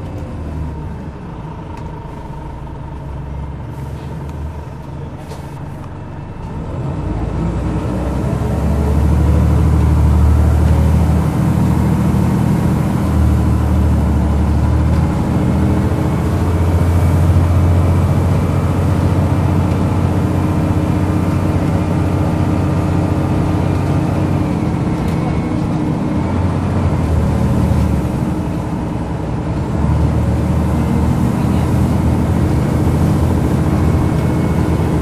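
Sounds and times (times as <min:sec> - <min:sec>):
bus diesel engine: 0:00.0 - 0:35.0.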